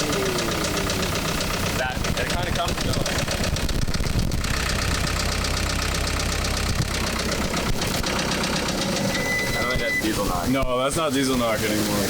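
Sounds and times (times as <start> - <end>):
diesel engine running with knock: 0.0 - 11.4.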